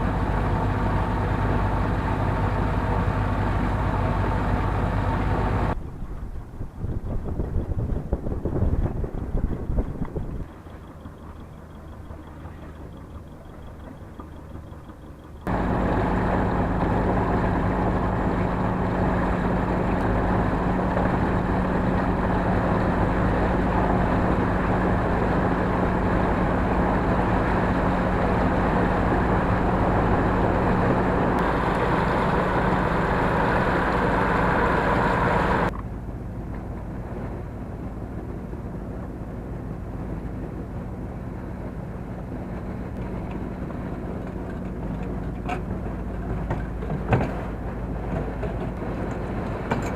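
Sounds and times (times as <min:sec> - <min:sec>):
rushing wind and water: 0:00.0 - 0:10.8, 0:15.5 - 0:49.9
boat engine humming: 0:00.0 - 0:49.9.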